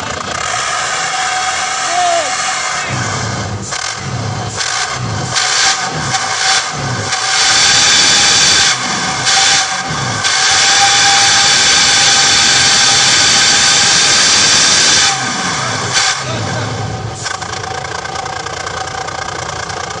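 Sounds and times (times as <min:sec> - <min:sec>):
bus engine revving: 0:00.0 - 0:20.0.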